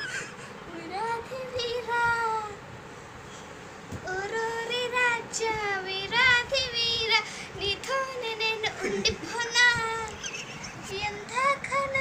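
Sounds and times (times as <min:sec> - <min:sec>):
girl singing: 0:00.7 - 0:02.7, 0:04.0 - 0:12.0.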